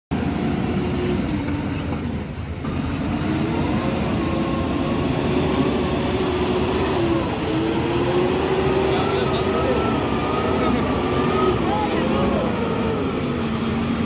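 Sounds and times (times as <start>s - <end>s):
diesel engine working hard: 0.1s - 14.0s.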